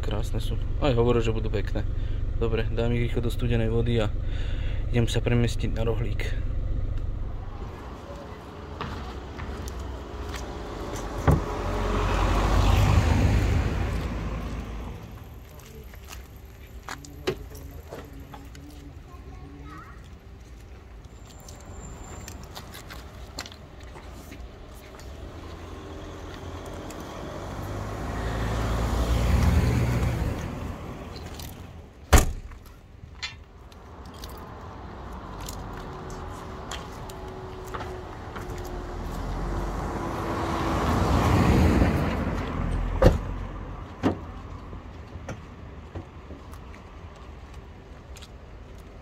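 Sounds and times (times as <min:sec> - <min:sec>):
cars passing: 0:00.0 - 0:49.0.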